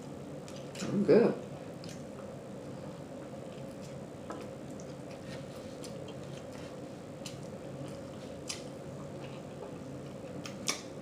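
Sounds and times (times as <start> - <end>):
steady low background hum: 0.0 - 11.0
person chewing with smacking: 0.4 - 11.0.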